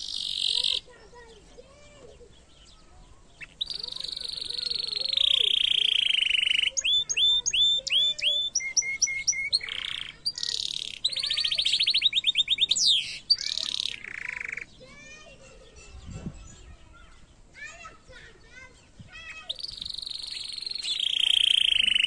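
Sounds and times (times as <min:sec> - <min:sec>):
canary singing: 0:00.0 - 0:17.4, 0:18.3 - 0:22.0.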